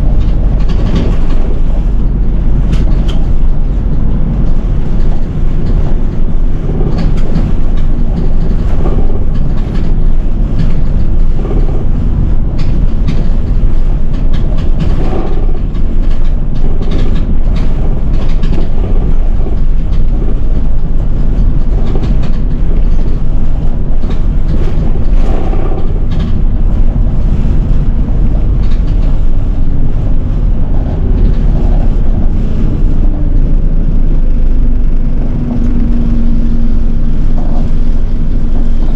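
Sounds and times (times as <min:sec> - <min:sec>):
bus body rattling and knocking: 0:00.0 - 0:38.9
bus engine and road drone: 0:00.0 - 0:38.9.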